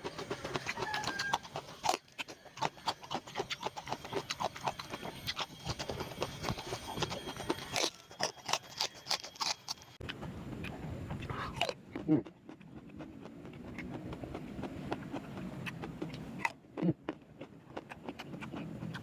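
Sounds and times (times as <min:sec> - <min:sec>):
wet chewing and lip smacking: 0:00.0 - 0:19.0.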